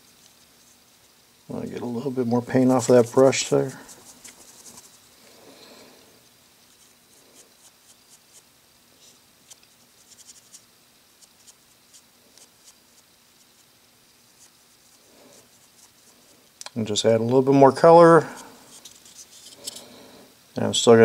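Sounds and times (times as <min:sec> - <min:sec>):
paintbrush scratching strokes: 0:00.0 - 0:05.2, 0:06.2 - 0:16.5, 0:18.0 - 0:20.0.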